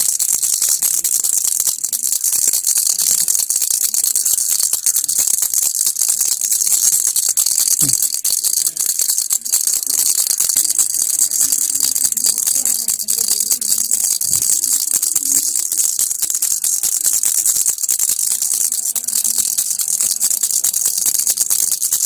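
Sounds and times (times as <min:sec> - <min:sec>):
baby rattle shaken: 0:00.0 - 0:22.0.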